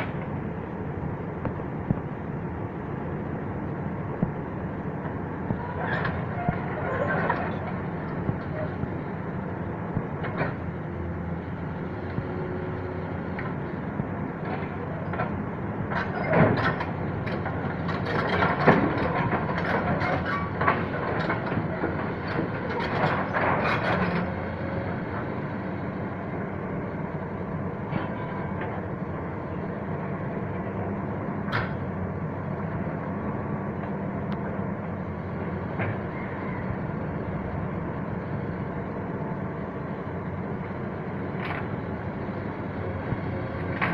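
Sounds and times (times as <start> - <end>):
excavator engine running: 0.0 - 43.9.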